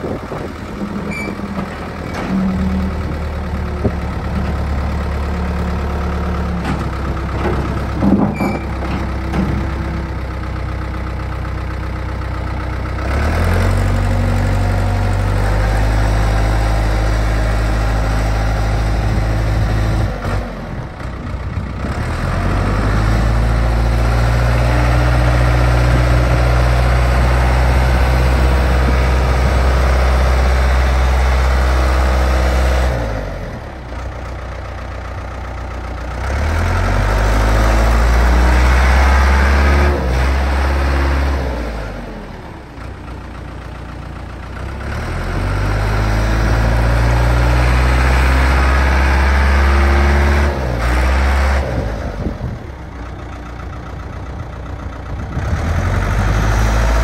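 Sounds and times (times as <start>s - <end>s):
diesel engine idling and revving: 0.0s - 57.0s.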